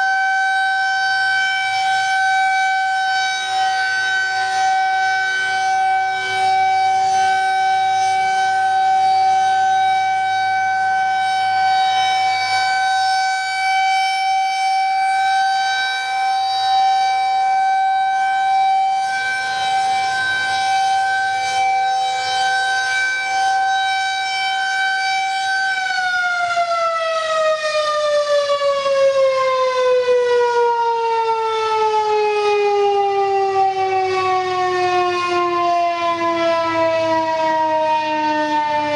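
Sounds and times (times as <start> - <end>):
tornado siren steady tone: 0.0 - 38.9.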